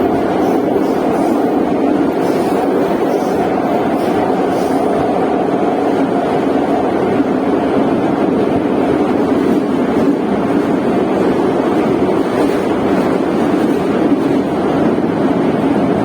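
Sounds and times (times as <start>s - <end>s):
metro train rumbling in tunnel: 0.0s - 16.0s.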